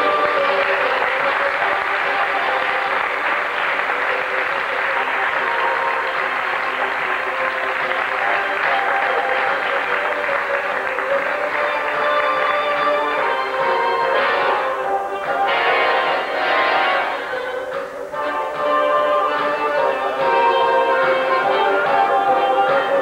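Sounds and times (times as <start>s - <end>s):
audience applauding: 0.0s - 23.0s
instrumental music: 0.0s - 23.0s.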